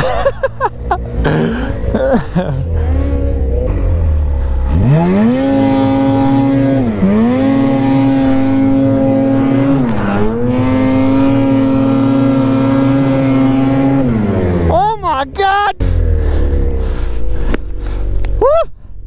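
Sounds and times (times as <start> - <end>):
snowmobile engine revving: 0.0 - 18.5.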